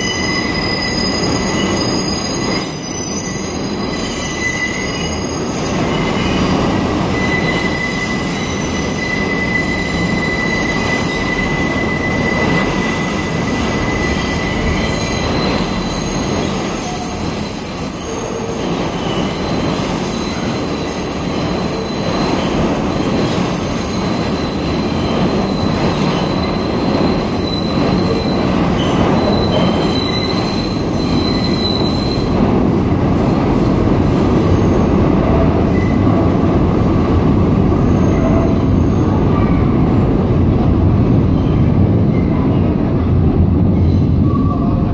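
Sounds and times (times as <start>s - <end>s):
train wheels squealing on curve: 0.0s - 36.4s, 37.8s - 39.8s, 43.7s - 44.9s
train rumble: 0.0s - 44.9s.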